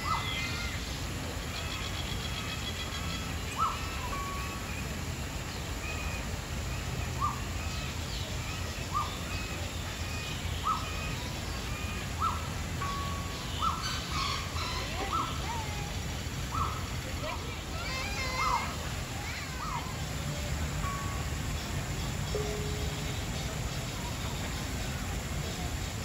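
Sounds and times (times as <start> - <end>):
low background rush: 0.0 - 26.0.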